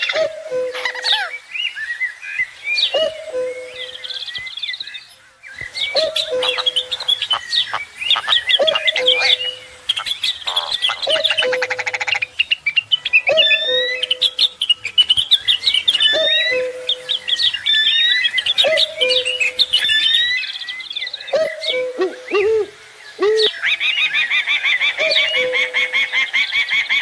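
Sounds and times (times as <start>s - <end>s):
birds chirping and twittering: 0.0s - 27.0s.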